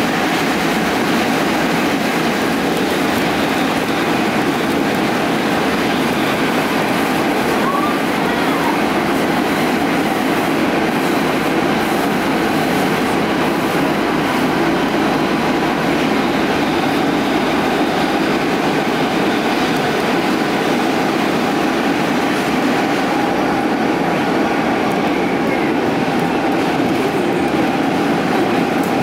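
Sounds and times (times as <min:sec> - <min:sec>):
metro train rumbling in tunnel: 0:00.0 - 0:29.0.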